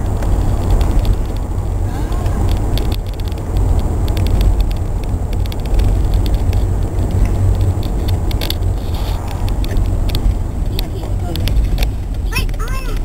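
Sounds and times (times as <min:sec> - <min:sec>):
car road and engine rumble: 0:00.0 - 0:13.0
light ticks and rattles: 0:00.0 - 0:13.0.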